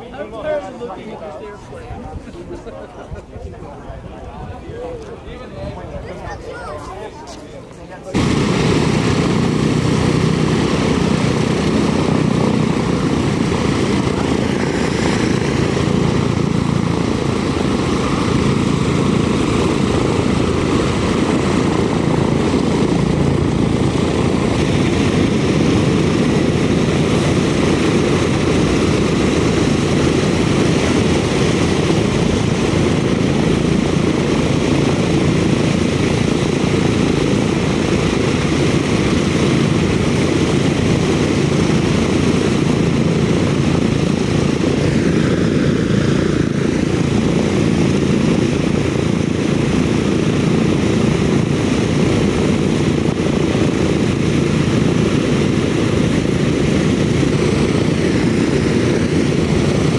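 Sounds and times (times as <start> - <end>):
propeller aircraft engines droning: 0.0 - 59.9.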